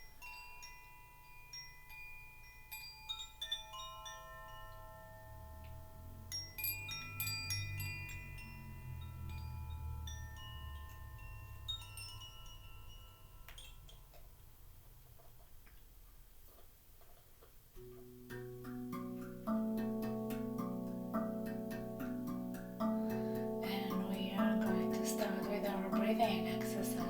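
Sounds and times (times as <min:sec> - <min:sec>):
wind chimes ringing: 0:00.0 - 0:14.8, 0:17.8 - 0:27.0.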